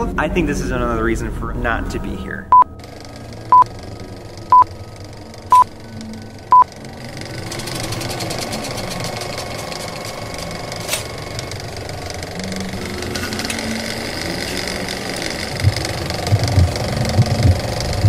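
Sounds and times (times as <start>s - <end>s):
film projector clattering: 2.8s - 18.0s.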